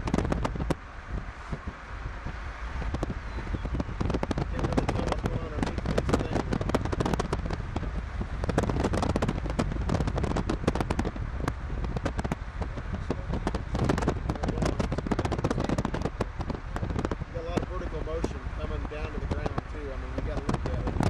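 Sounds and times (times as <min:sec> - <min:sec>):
road rumble: 0:00.0 - 0:21.0
rain ticking on vehicle roof: 0:02.8 - 0:21.0.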